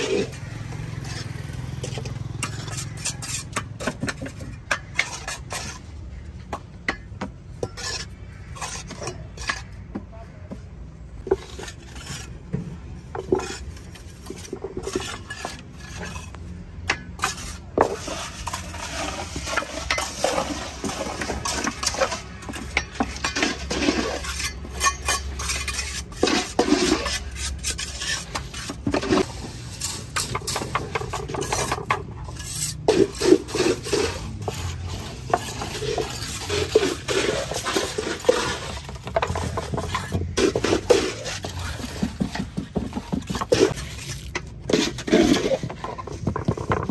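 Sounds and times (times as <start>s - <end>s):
metal scoop scraping cement mix: 0.0s - 6.5s, 7.5s - 10.0s, 11.2s - 46.9s.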